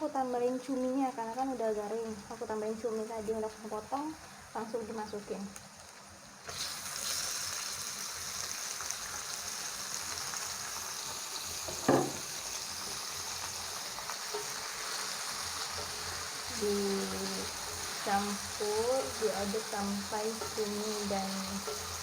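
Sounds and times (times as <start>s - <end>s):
squid sizzling in hot oil: 0.0s - 22.0s.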